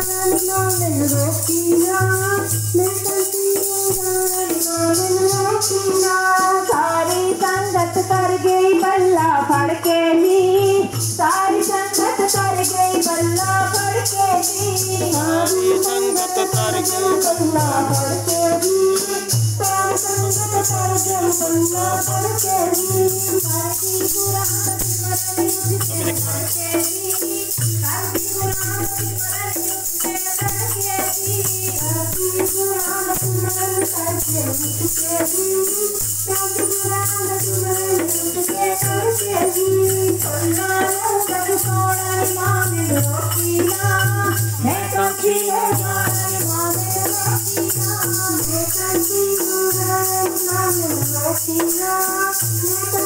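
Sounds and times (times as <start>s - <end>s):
hand drum: 0.0s - 53.0s
shaken jingling percussion: 0.0s - 53.0s
women singing a hymn: 0.0s - 53.0s.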